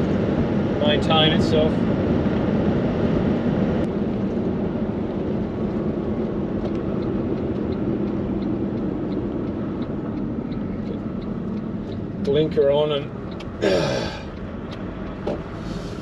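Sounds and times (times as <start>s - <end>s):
car interior road and engine drone: 0.0s - 16.0s.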